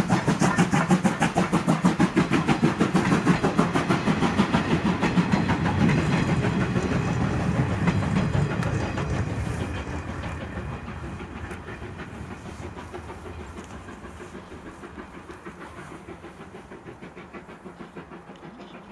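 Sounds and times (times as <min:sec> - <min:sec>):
steam locomotive chuffing: 0:00.0 - 0:18.9.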